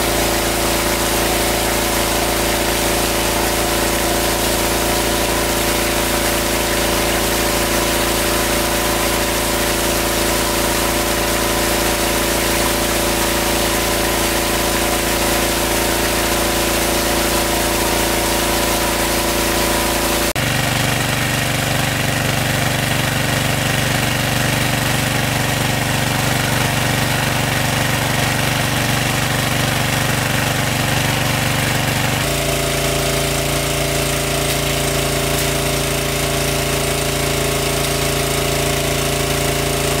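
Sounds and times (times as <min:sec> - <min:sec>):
water pump engine droning: 0:00.0 - 0:40.0.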